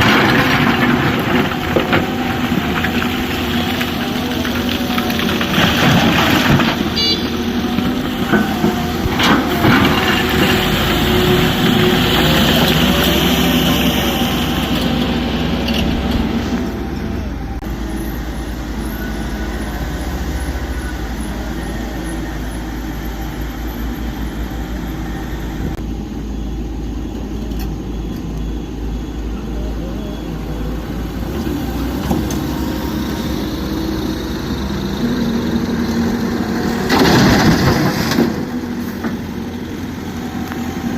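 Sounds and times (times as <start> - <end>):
diesel machinery engine rumble: 0.0 - 40.9.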